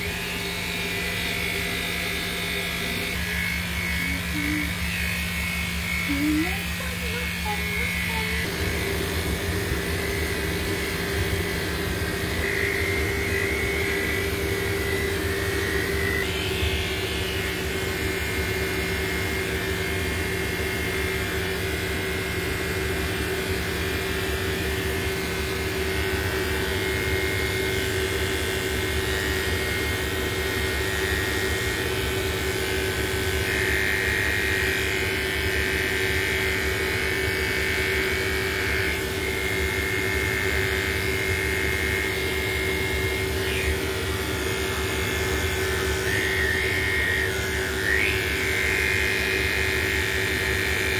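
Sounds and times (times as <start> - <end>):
electric clippers buzzing: 0.0 - 50.9
low mechanical drone: 0.0 - 50.9.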